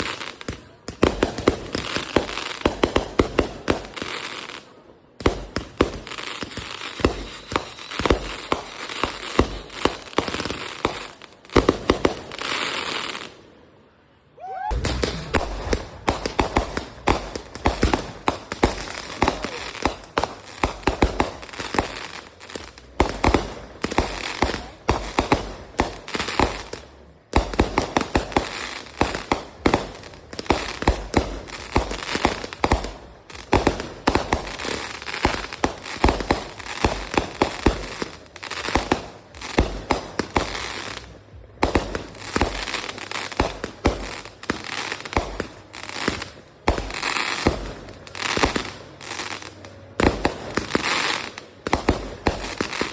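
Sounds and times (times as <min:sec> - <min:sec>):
fireworks bangs and crackles: 0:00.0 - 0:13.5, 0:14.7 - 0:52.9.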